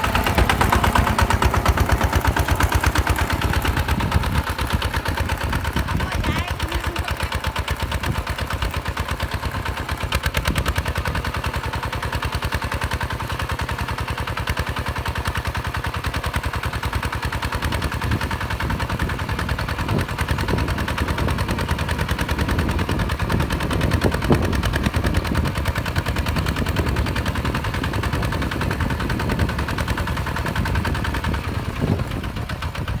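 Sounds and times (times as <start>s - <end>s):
tractor diesel engine chugging: 0.0s - 33.0s.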